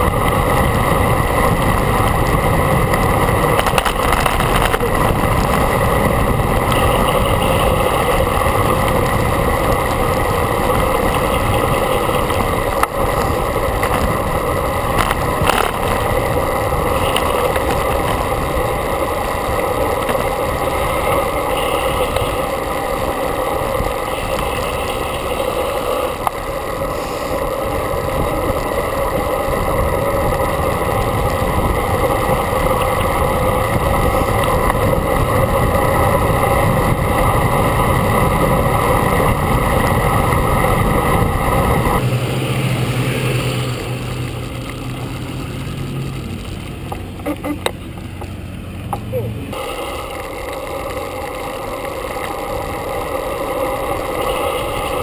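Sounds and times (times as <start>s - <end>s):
road noise: 0.0s - 55.0s
wind buffeting camera: 0.0s - 55.0s.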